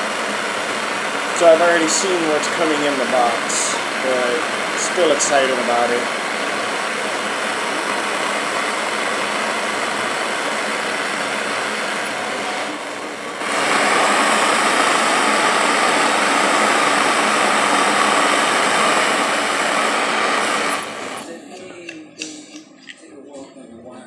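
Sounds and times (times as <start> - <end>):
butane torch hissing: 0.0 - 21.4.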